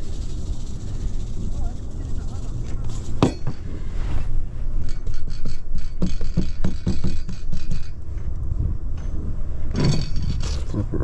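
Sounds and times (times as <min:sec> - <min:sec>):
steady low rumble: 0:00.0 - 0:06.3, 0:07.4 - 0:11.0.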